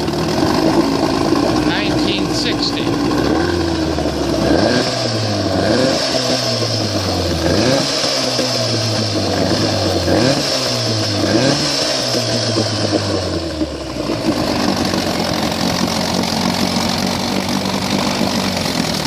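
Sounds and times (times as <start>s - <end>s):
outboard motor revving and idling: 0.0s - 19.0s.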